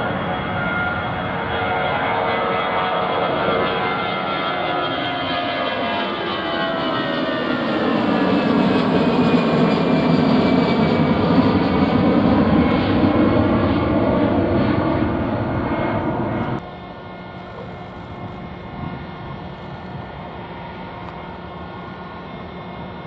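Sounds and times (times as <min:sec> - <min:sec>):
plane engines roaring: 0:00.0 - 0:23.0.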